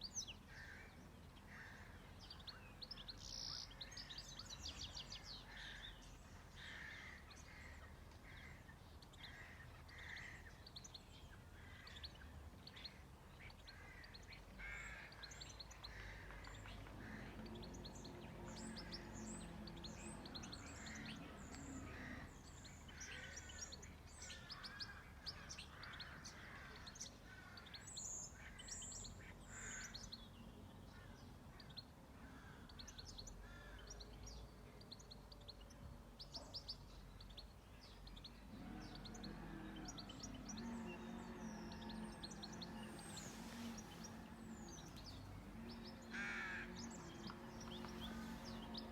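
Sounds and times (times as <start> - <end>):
birds chirping and singing: 0.0 - 48.9.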